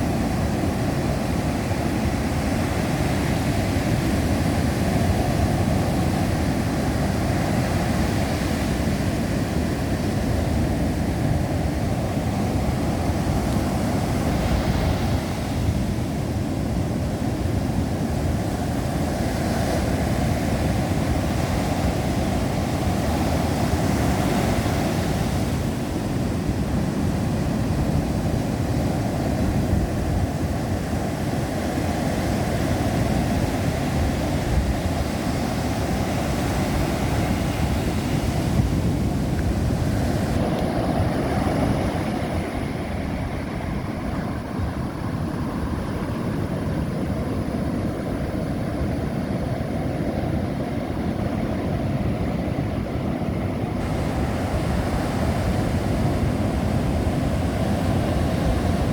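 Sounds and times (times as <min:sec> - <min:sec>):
surf breaking on shore: 0:00.0 - 0:58.9
wind buffeting microphone: 0:00.0 - 0:58.9.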